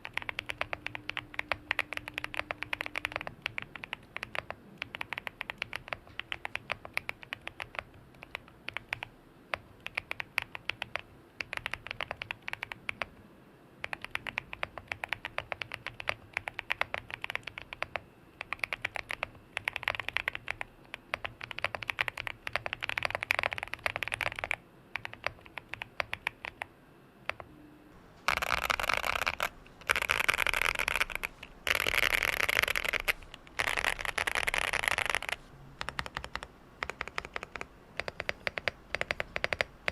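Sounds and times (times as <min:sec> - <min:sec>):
rapid keyboard clacking bursts: 0:00.0 - 0:13.1, 0:13.8 - 0:26.7, 0:28.2 - 0:39.9.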